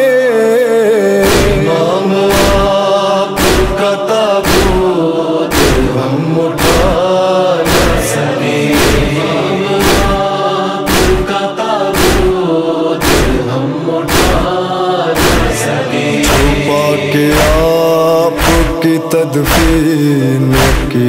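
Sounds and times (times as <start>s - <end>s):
men chanting in chorus: 0.0s - 21.0s
deep regular beat: 1.2s - 11.4s, 12.0s - 14.6s, 15.2s - 21.0s.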